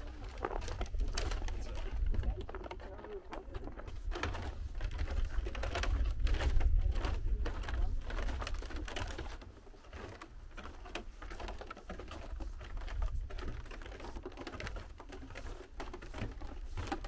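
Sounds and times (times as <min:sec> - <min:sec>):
footsteps on wooden boardwalk: 0:00.0 - 0:17.0
trekking poles tapping wood: 0:00.0 - 0:17.0.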